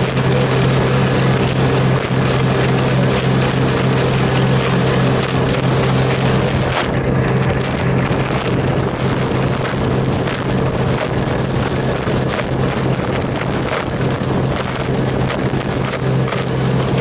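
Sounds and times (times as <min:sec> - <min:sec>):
boat engine drone: 0:00.0 - 0:17.0
rushing water: 0:00.0 - 0:17.0
wind buffeting microphone: 0:00.0 - 0:17.0.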